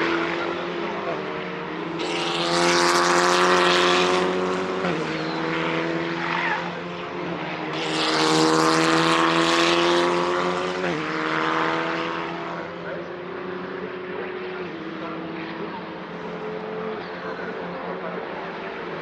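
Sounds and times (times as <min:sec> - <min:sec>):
racing car engine accelerating: 0:00.0 - 0:19.0.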